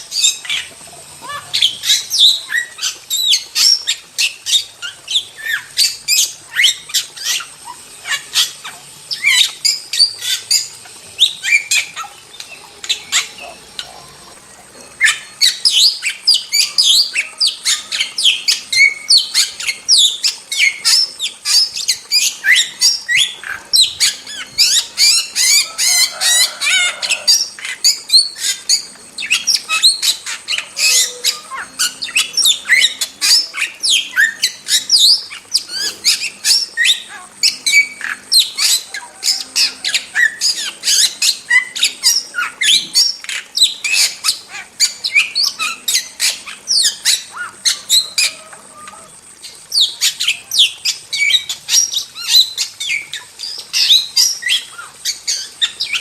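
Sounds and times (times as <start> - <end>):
starling singing chirps and whistles: 0.0 - 56.0.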